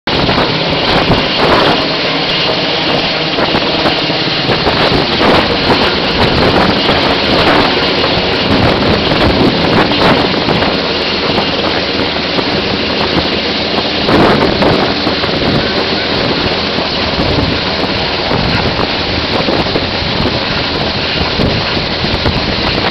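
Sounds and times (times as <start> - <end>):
helicopter rotor and engine noise: 0.1 - 22.9.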